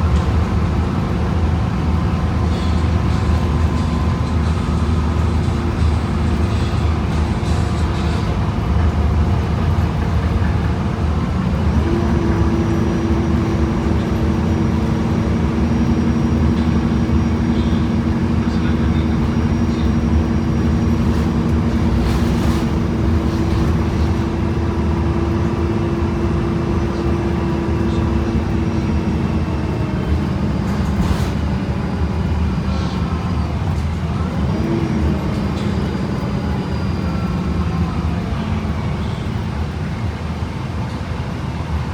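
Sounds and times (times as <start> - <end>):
bus drivetrain rumble: 0.0 - 41.9
transmission whine: 0.0 - 41.9.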